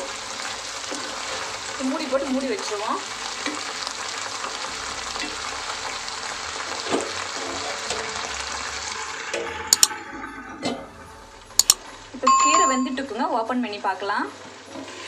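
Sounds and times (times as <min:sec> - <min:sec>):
leaves sizzling in hot oil: 0:00.0 - 0:10.2, 0:13.0 - 0:15.0.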